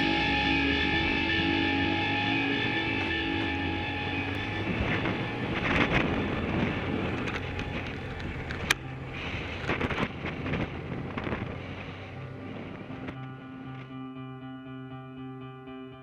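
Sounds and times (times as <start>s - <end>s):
motorcycle engine running: 0.0s - 13.8s
wind noise on microphone: 0.0s - 14.0s.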